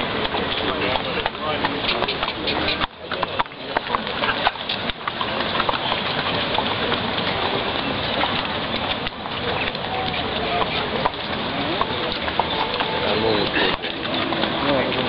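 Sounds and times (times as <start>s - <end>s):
crowd hubbub: 0.0s - 15.0s
horse hooves on wet tarmac: 0.0s - 15.0s.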